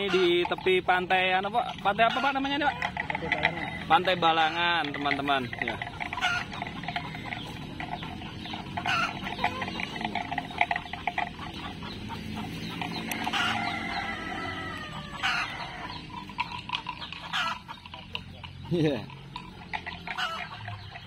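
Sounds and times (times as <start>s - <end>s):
cattle chewing grass: 0.0s - 21.0s.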